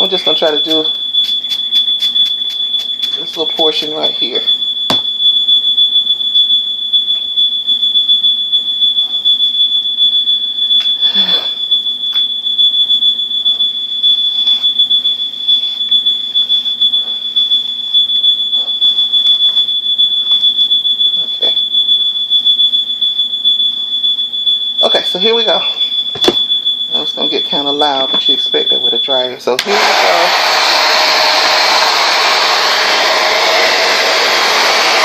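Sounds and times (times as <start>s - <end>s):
smoke detector alarm tone: 0.0s - 35.0s.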